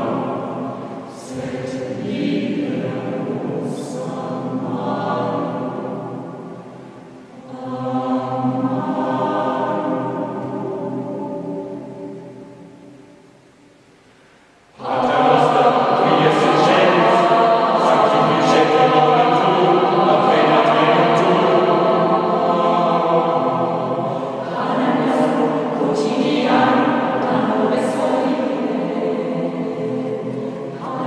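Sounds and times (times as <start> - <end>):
choir singing unaccompanied: 0.0 - 14.0, 14.6 - 31.0.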